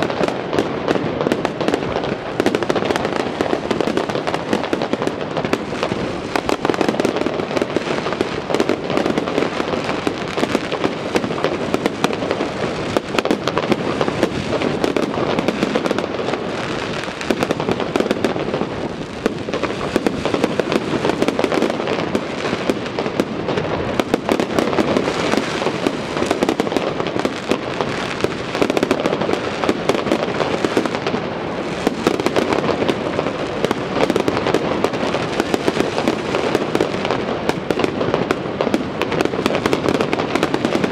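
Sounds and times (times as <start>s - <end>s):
fireworks crackling and popping: 0.0s - 40.9s
heavy firework bangs: 0.0s - 40.9s.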